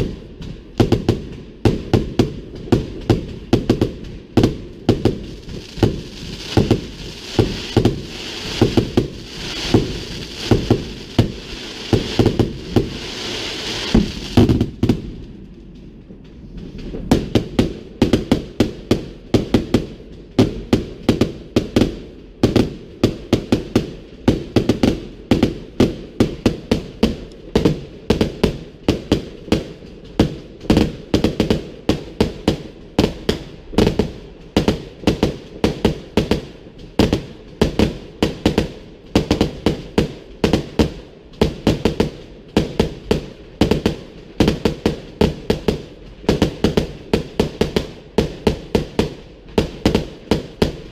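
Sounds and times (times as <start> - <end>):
fireworks banging: 0.0 - 50.9.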